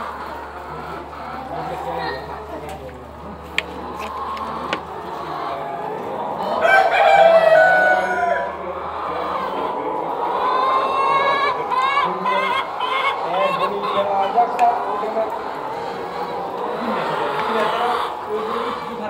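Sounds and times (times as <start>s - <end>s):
chickens calling: 0.0s - 19.0s.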